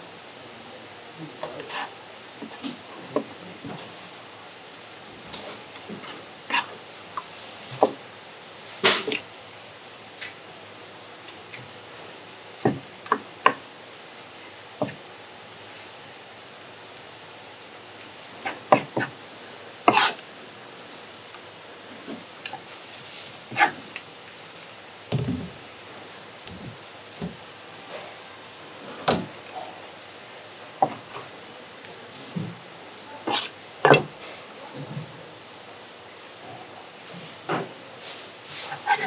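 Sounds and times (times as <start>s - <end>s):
steady low background noise: 0.0s - 39.0s.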